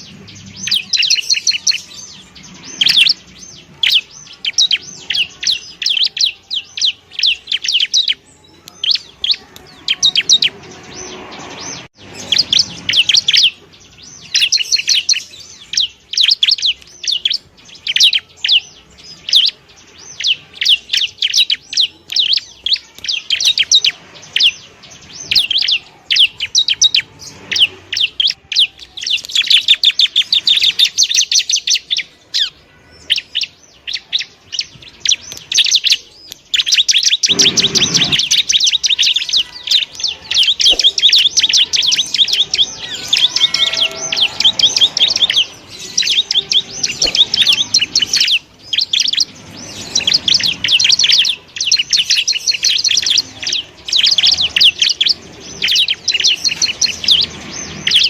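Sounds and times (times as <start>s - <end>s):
bird chirping in fast trills: 0.0s - 58.0s.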